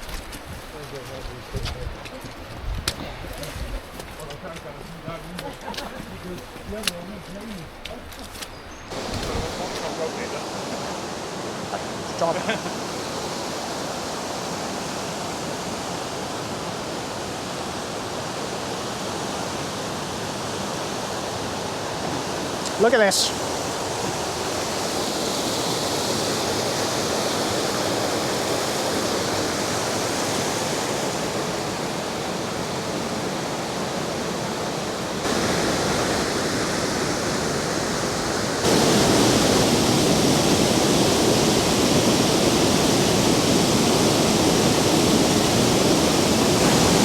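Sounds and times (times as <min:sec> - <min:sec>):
waterfall rushing: 0:08.9 - 0:47.0.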